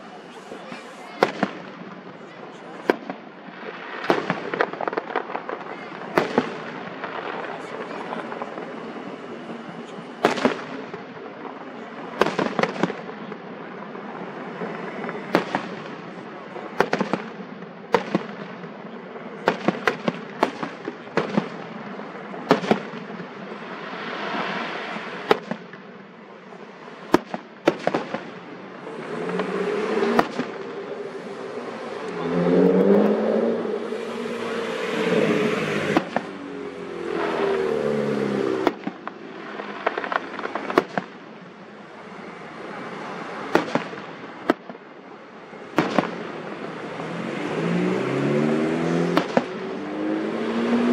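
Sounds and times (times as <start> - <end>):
continuous crackling hiss: 0.0 - 33.0, 33.7 - 47.6
distant firework bangs: 0.0 - 41.7, 42.5 - 44.8, 45.6 - 46.8, 48.6 - 50.7.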